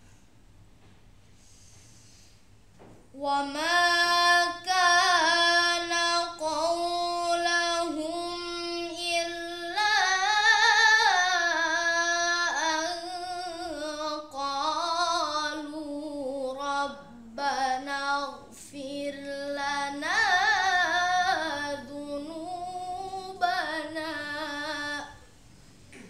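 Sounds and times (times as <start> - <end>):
boy reciting melodically: 3.1 - 25.3.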